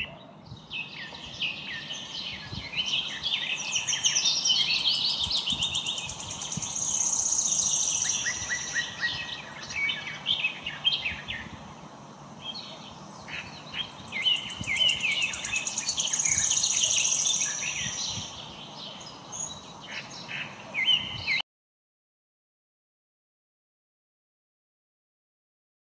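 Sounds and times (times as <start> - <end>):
birds chirping and trilling: 0.0 - 21.4
faint hiss: 0.5 - 21.3.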